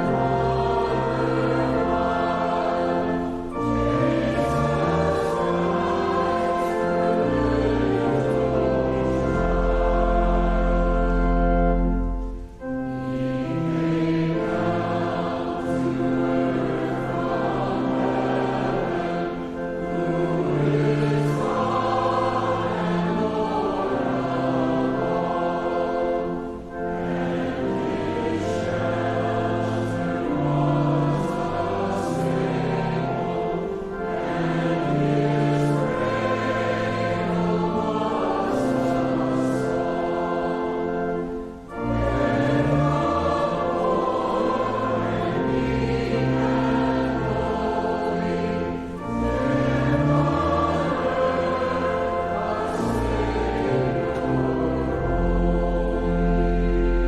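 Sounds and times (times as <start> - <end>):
group singing a hymn: 0.0 - 57.0.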